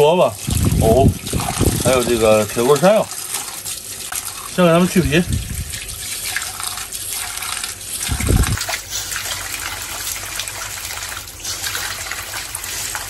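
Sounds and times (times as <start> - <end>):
tap water pouring and splashing: 0.0 - 13.0.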